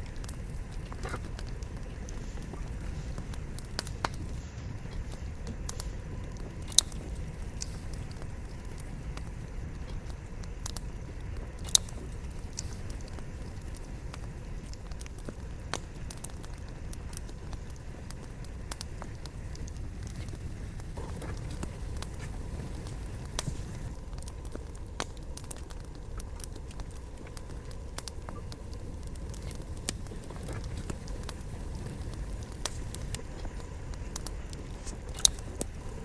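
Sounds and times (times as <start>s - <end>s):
flames rumbling: 0.0s - 36.0s
logs crackling and popping: 0.0s - 36.0s.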